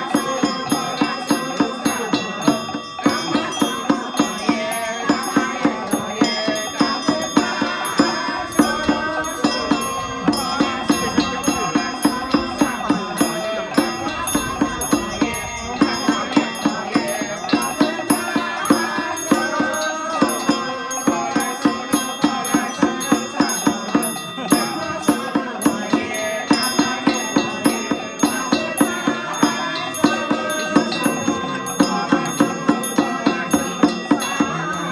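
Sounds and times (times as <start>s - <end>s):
sharp percussion strikes: 0.0s - 34.9s
sustained melodic tones: 0.0s - 34.9s.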